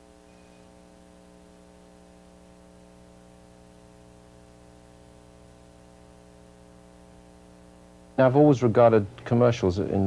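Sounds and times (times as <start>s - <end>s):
background hiss: 0.0s - 10.0s
electrical mains hum: 0.0s - 10.0s.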